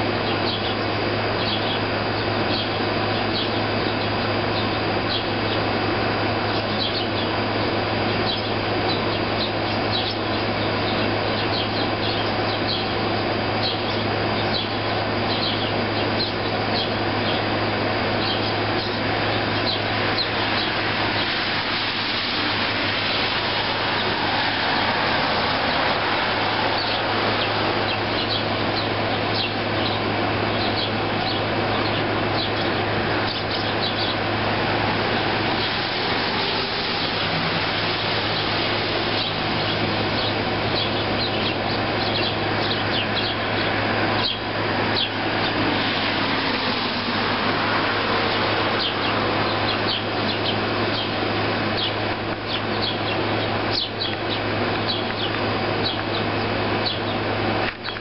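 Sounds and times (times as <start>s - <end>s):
air conditioner humming: 0.0s - 58.0s
sparrows chirping: 0.0s - 58.0s.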